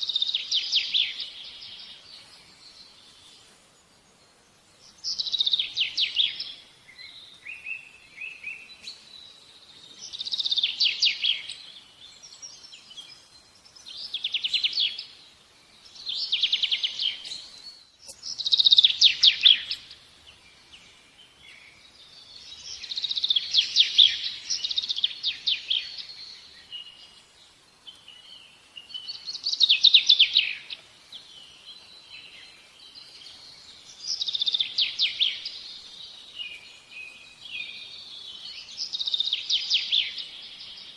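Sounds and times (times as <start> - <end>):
soft bird chirps: 0.0 - 40.9.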